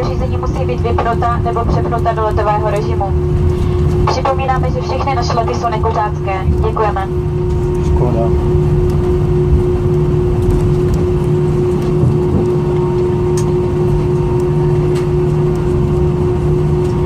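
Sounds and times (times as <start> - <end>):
aircraft cabin hum: 0.0 - 17.0.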